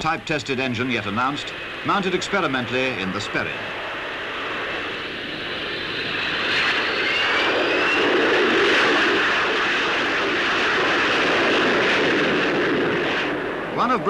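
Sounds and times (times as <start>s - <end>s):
jet aircraft flying over: 0.0s - 14.0s.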